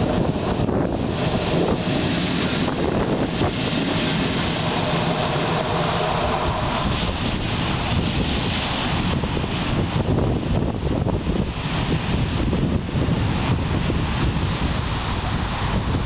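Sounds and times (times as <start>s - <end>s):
electric locomotive hum: 0.0s - 16.0s
train wheels rumbling on rails: 0.0s - 16.0s
wind buffeting microphone: 0.0s - 16.0s.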